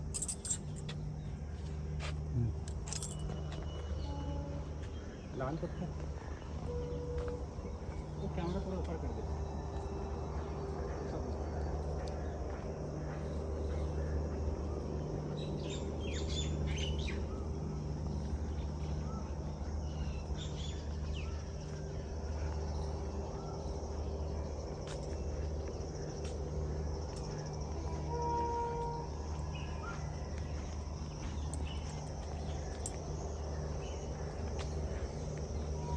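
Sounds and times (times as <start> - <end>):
birds chirping: 0.0 - 35.9
steady low hum: 0.0 - 35.9.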